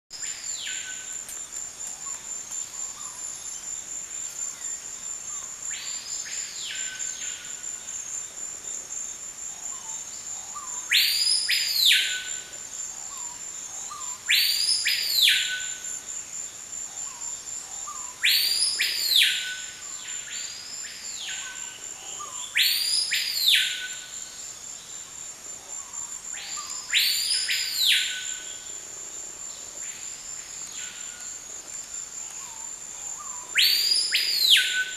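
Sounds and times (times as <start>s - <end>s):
high-pitched insect trill: 0.2s - 34.9s.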